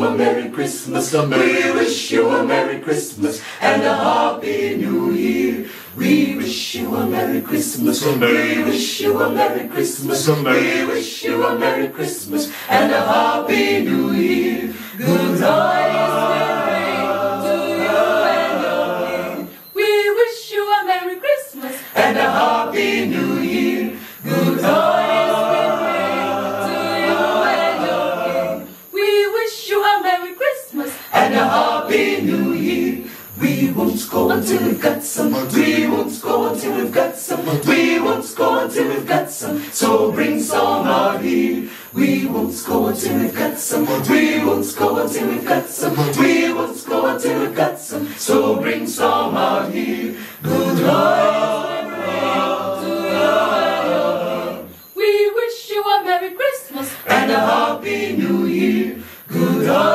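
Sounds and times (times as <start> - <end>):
mixed choir singing a cappella: 0.0 - 59.9.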